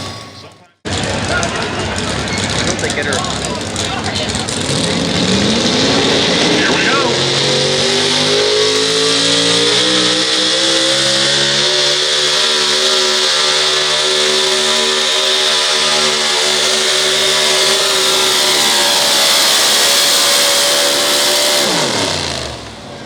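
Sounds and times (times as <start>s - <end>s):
truck engine at full throttle: 0.0s - 23.0s
tyres spinning: 0.0s - 23.0s.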